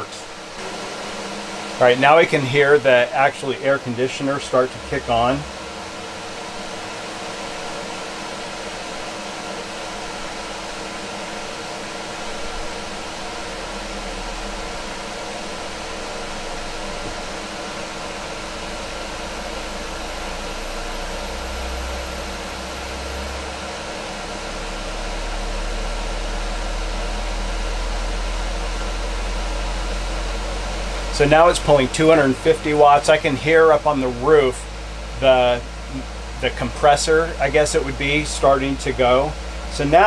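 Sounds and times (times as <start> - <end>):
air conditioner blowing air: 0.0 - 40.0
low compressor hum: 0.0 - 40.0.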